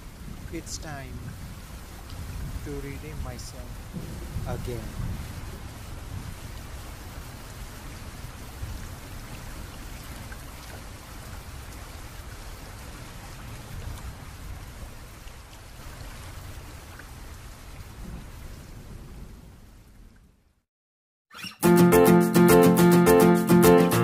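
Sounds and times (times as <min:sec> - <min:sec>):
steady rain hiss: 0:00.0 - 0:20.4.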